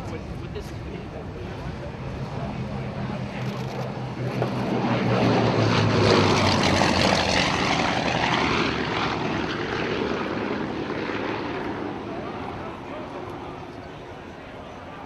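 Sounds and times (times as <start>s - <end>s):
propeller aircraft engines flying past: 0.0s - 15.0s.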